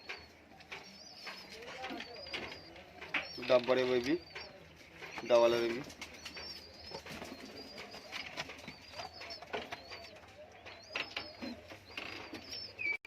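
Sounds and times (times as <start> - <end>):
pigeons cooing: 0.0 - 13.0
pigeons squeaking: 0.0 - 13.0.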